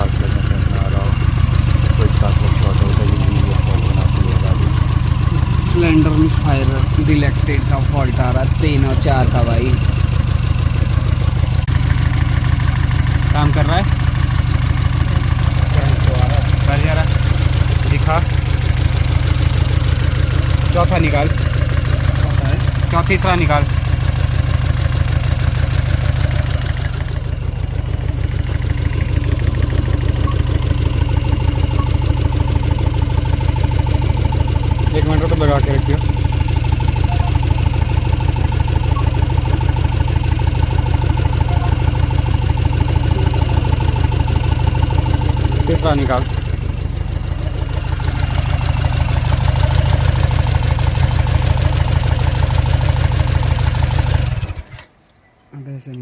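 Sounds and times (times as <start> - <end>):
car engine idling unevenly: 0.0 - 54.9.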